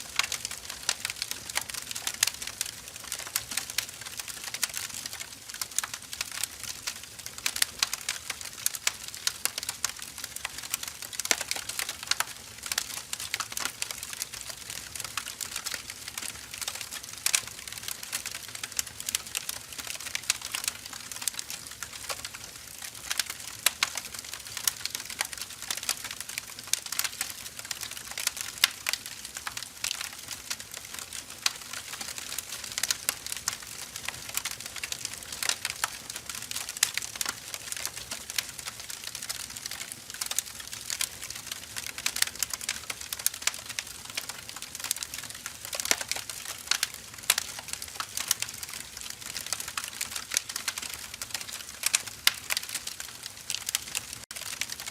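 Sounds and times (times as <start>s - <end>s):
firewood crackling and popping: 0.0s - 54.9s.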